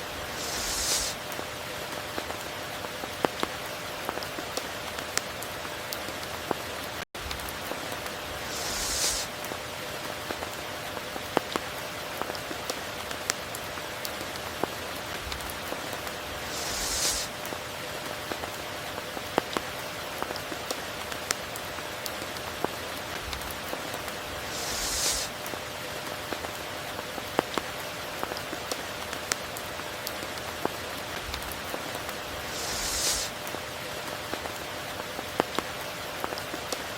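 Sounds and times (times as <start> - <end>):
steady rain hiss: 0.0 - 36.9
raindrops ticking nearby: 0.1 - 36.9.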